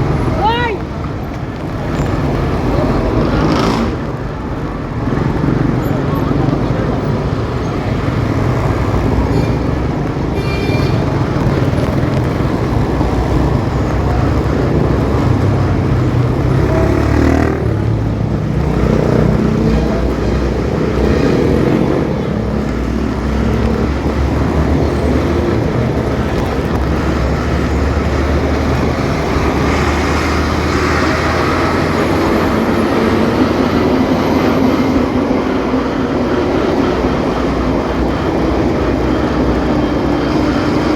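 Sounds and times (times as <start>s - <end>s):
road and traffic noise: 0.0s - 40.9s.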